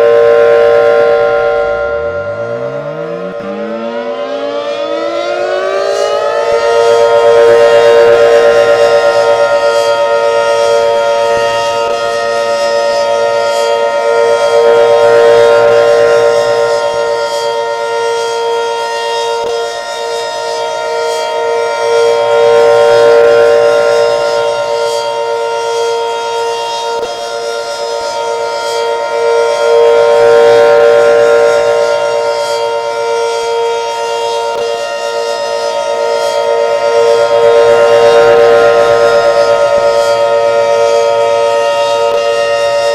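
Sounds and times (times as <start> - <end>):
outdoor warning siren wailing: 0.0 - 42.9.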